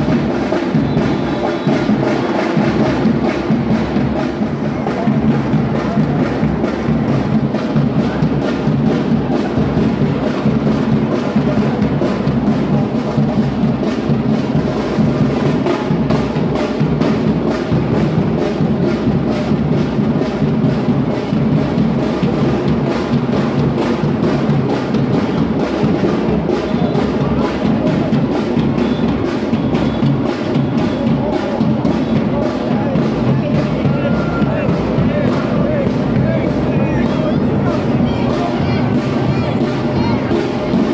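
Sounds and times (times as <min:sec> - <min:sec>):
bass drums: 0:00.0 - 0:40.9
samba drum ensemble: 0:00.0 - 0:40.9.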